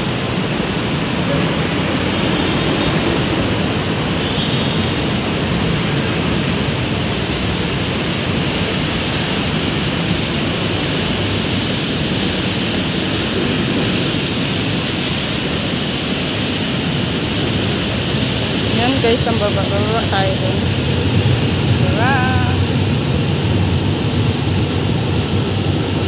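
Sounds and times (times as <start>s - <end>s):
loud rushing background noise: 0.0s - 26.0s.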